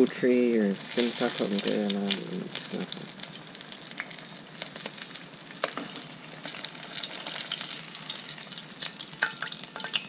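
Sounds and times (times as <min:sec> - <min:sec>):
hot oil sizzling and popping: 0:00.0 - 0:10.0.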